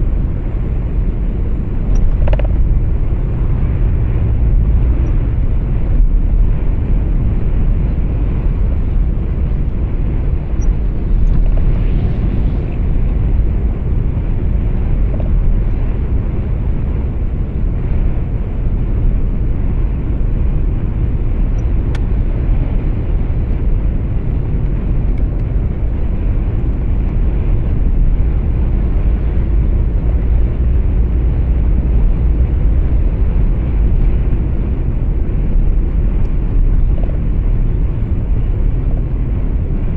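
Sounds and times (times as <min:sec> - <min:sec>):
truck cab road rumble: 0:00.0 - 0:39.9.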